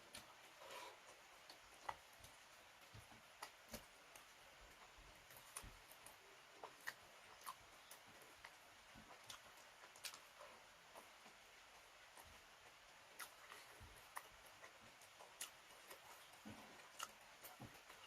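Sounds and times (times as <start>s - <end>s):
person chewing with wet clicks: 0.0s - 18.0s.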